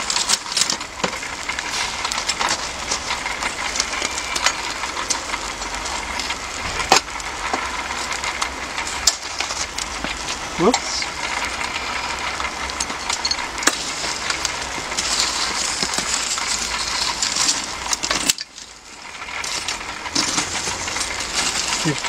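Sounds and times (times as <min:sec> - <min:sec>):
charcoal being stirred: 0:00.0 - 0:22.0.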